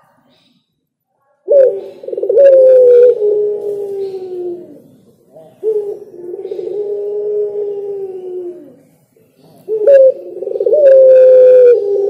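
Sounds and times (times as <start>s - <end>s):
dove cooing: 1.5s - 12.0s.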